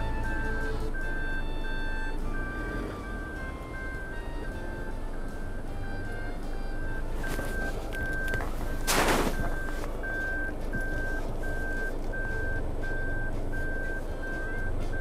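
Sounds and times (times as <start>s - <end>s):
low engine rumble: 0.0s - 15.0s
reversing warning beeper: 0.0s - 15.0s.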